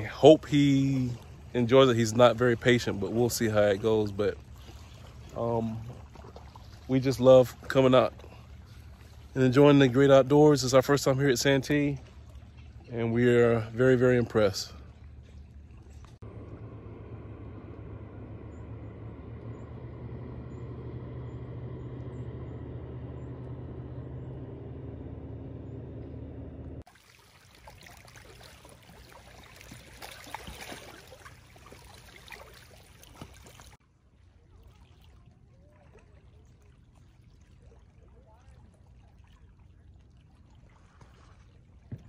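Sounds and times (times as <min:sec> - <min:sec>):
low motor-like hum: 0:00.0 - 0:42.0
water lapping at the shore: 0:00.0 - 0:42.0.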